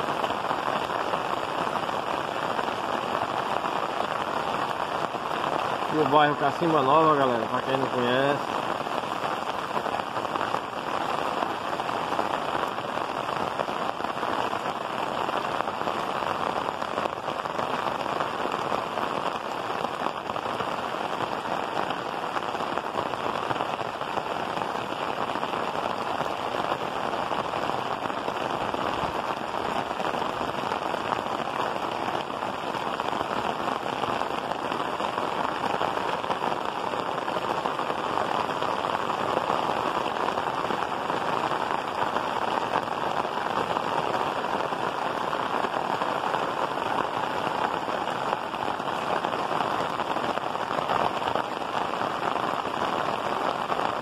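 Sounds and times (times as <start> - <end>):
heavy rain on tile roof: 0.0 - 54.0.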